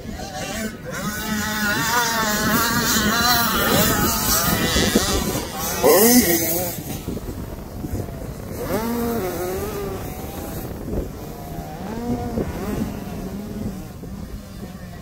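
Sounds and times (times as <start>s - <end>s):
dirt bike engine revving: 0.0s - 15.0s
wind on microphone: 0.0s - 15.0s.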